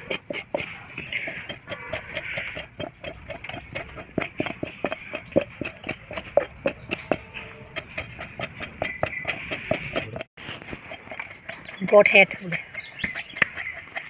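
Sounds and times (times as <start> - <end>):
metal rim scraping hair off skin: 0.0 - 14.0.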